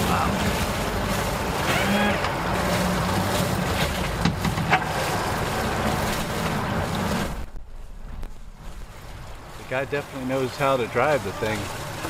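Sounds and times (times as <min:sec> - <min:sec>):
outboard motors idling: 0:00.0 - 0:12.0
water churning: 0:00.0 - 0:12.0.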